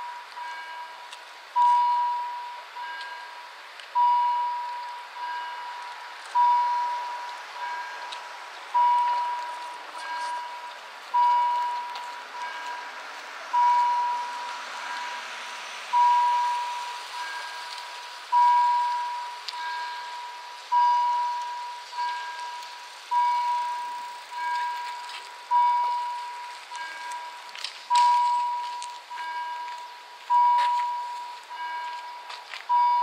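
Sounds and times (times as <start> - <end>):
level crossing bells ringing: 0.0 - 13.0, 13.6 - 15.2, 16.0 - 33.0.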